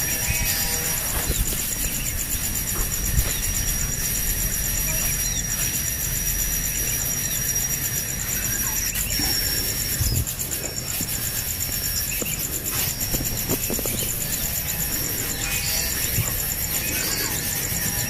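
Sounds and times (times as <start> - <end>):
insects trilling: 0.0 - 18.0
thin high whine: 0.0 - 18.0.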